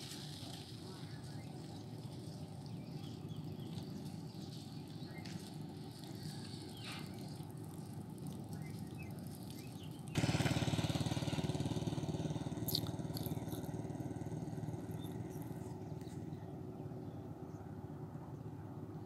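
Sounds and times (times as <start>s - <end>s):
small vehicle engine: 0.0s - 19.0s.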